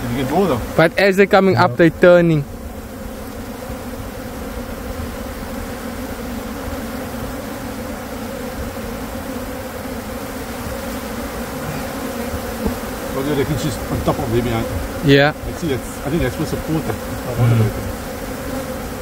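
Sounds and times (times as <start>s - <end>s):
bee colony buzzing: 0.0s - 19.0s.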